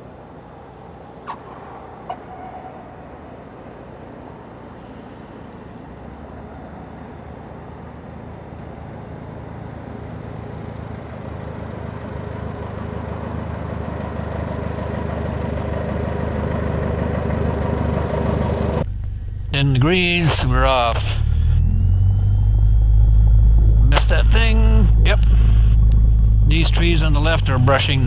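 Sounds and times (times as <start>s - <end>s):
light aircraft engine running: 0.0s - 28.0s.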